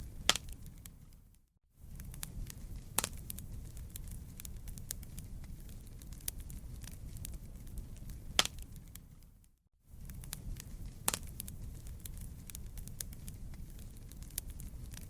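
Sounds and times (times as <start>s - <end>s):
sharp pops of burning wood: 0.0s - 1.2s, 1.9s - 9.4s, 10.0s - 15.0s
campfire flames rumbling: 0.0s - 15.0s
fire crackling: 0.0s - 15.0s.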